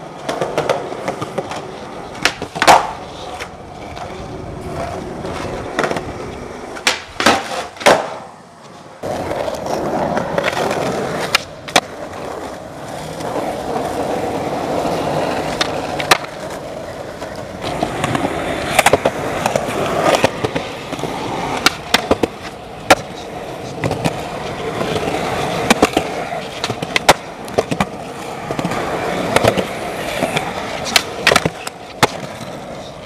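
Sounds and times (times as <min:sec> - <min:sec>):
skateboard tail clacks: 0:00.0 - 0:33.0
skateboard wheels rolling on concrete: 0:00.0 - 0:33.0.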